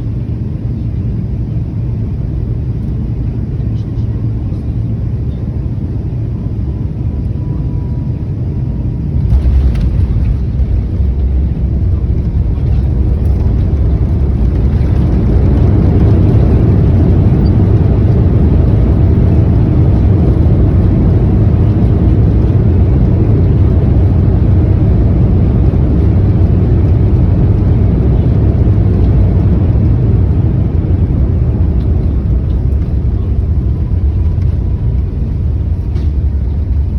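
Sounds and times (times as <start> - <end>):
airliner engine and airflow rumble: 0.0 - 36.9.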